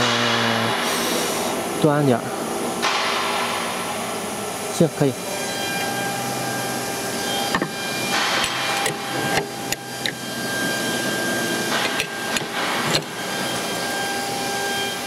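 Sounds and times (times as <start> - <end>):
steady hum with whining tones: 0.0 - 15.0.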